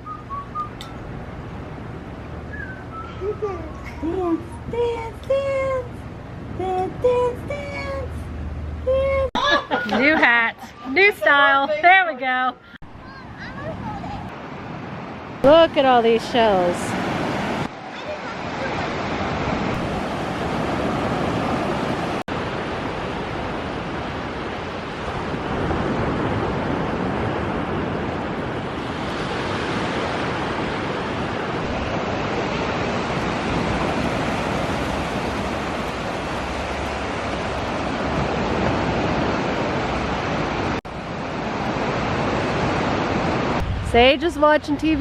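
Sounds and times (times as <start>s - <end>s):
ocean surf on beach: 0.0s - 45.0s.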